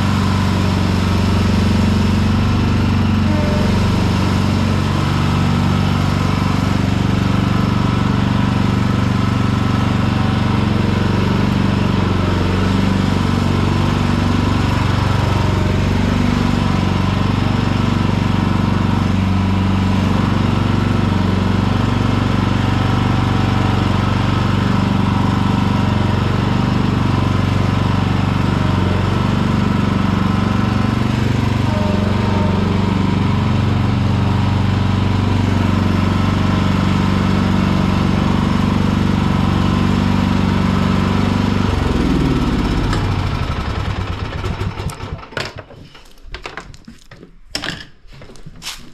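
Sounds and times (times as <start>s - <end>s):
ride-on mower engine running: 0.0s - 46.1s.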